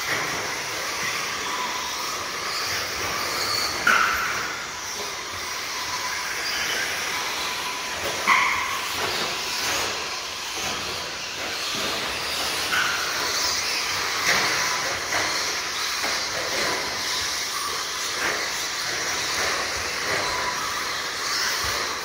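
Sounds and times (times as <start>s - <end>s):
toy truck motors whining: 0.0s - 22.0s.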